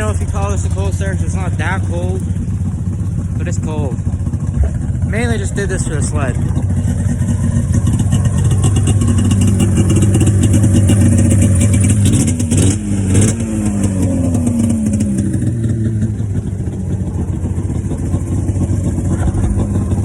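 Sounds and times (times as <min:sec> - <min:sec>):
small engine idling and revving: 0:00.0 - 0:20.0.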